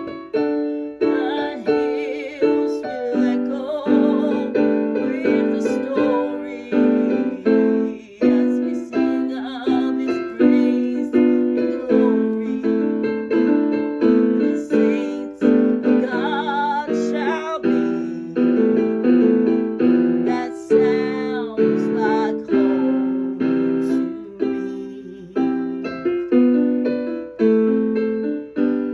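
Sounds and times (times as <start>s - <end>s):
piano chords ringing: 0.0s - 28.9s.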